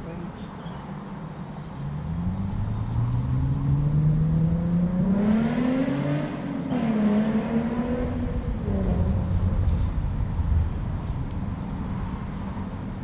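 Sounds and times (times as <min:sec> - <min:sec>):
vehicle engine accelerating: 0:01.7 - 0:13.0.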